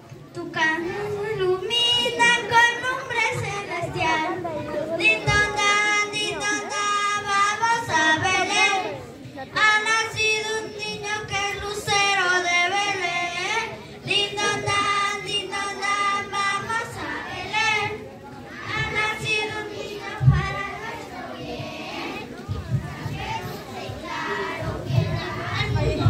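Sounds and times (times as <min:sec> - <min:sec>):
children singing a carol: 0:00.4 - 0:09.0, 0:09.6 - 0:26.0.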